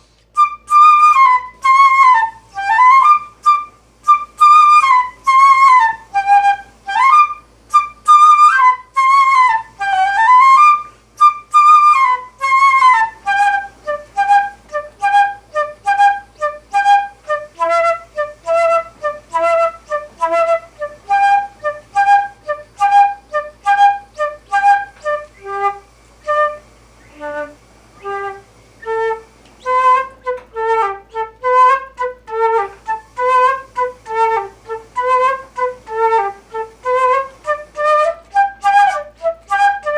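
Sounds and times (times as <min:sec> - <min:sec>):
flute melody: 0:00.0 - 0:39.9.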